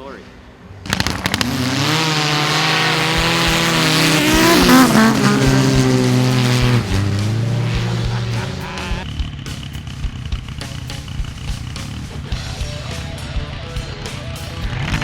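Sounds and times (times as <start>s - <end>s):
engines running at high revs: 0.8s - 15.0s.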